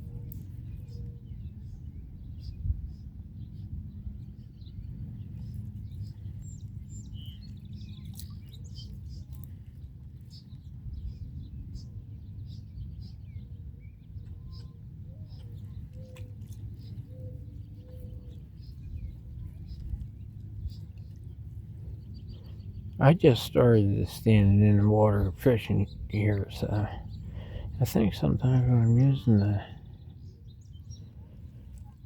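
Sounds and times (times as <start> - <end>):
small birds chirping: 0.0 - 32.0
steady low rumble: 0.0 - 32.0.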